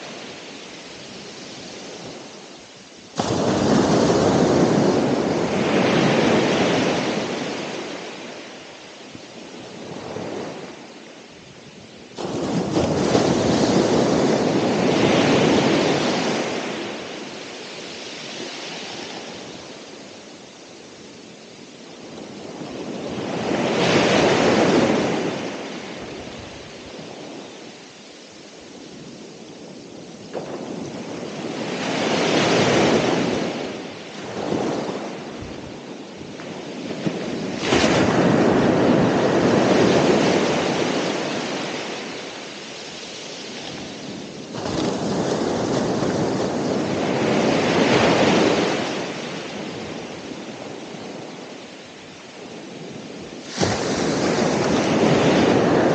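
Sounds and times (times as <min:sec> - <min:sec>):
ocean waves breaking on shore: 0:00.0 - 0:55.9.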